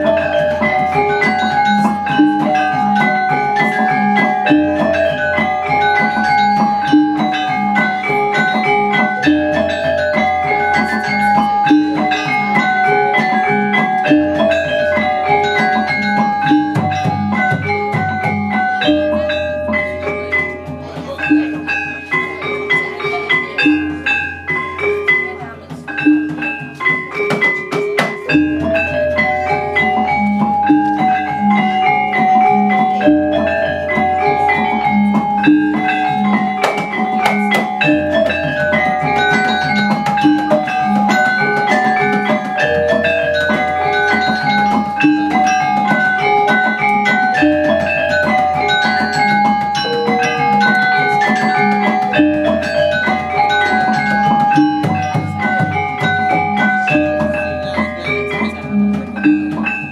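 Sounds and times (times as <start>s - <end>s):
metallophones ringing: 0.0s - 59.9s.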